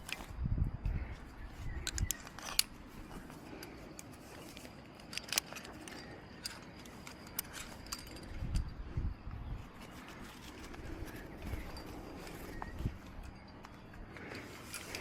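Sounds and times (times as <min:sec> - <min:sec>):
climbing gear clinking: 0:00.0 - 0:15.0.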